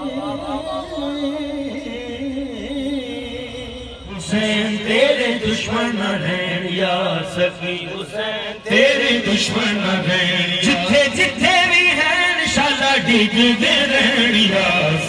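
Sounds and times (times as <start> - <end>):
man chanting through loudspeakers: 0.0 - 15.0.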